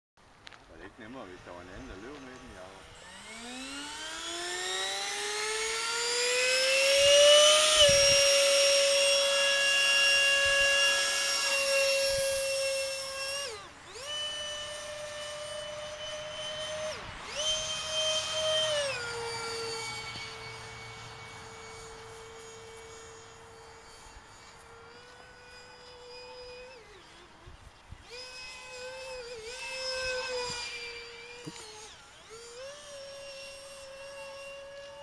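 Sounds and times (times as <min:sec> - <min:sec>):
model jet fan whining: 0:00.2 - 0:35.0.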